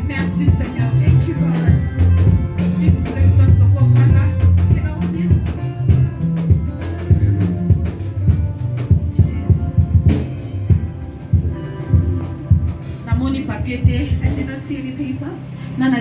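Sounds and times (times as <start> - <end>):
upbeat music with bass and percussion: 0.0 - 14.7.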